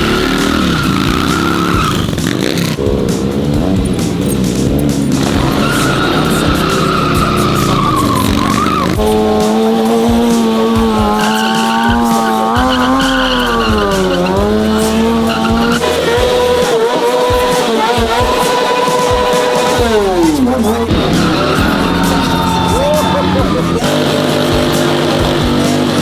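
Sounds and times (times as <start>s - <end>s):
car engine revving high: 0.0s - 26.0s
tyres squealing: 0.0s - 26.0s.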